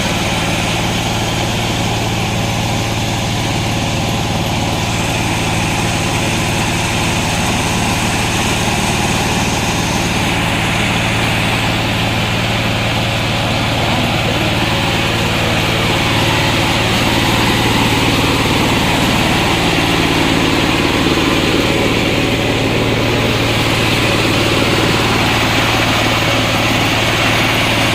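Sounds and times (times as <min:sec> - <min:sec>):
saw engine humming: 0:00.0 - 0:27.9.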